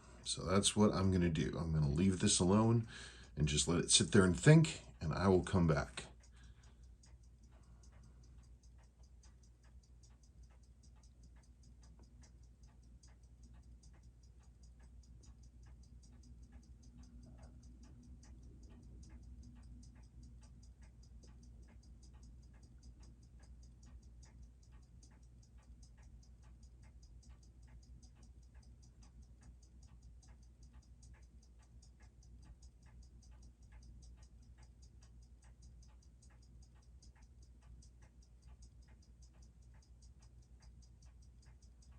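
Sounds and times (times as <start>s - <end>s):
low steady hum: 0.0s - 41.9s
watch ticking: 0.0s - 41.9s.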